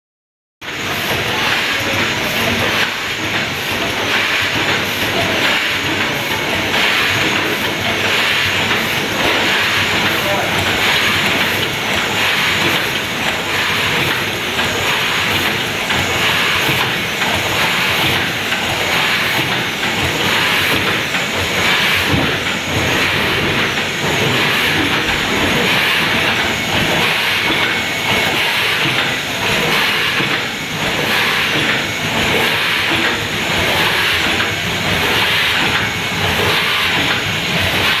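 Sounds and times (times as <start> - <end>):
mechanical clatter: 0.6 - 38.0.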